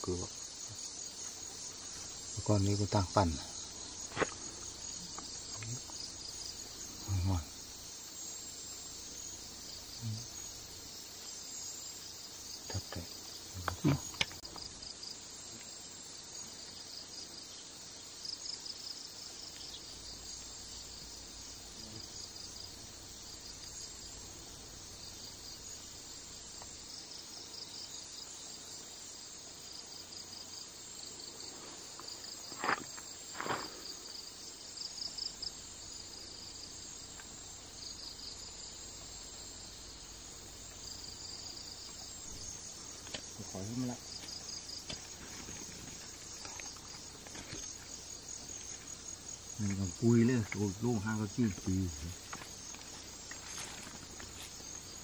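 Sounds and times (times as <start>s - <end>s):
night insects chirping: 0.0s - 55.0s.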